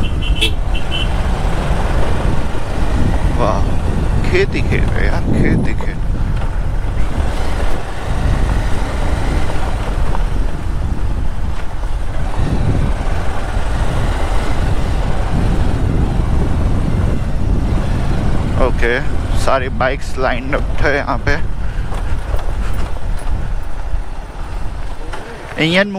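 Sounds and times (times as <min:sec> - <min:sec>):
motorcycle engine running: 0:00.0 - 0:25.8.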